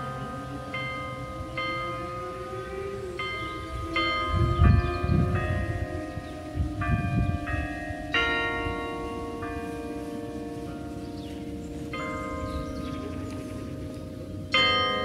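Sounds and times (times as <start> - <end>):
carillon bells playing melody: 0.0 - 15.0
wind rumble on microphone: 0.0 - 15.0.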